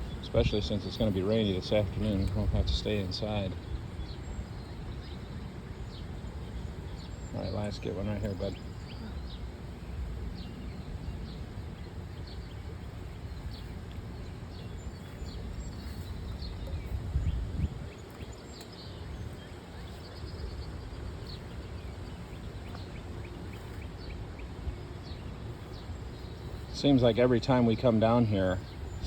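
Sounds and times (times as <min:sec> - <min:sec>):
small birds chirping: 0:00.0 - 0:29.0
wind rumbling on microphone: 0:00.0 - 0:29.0.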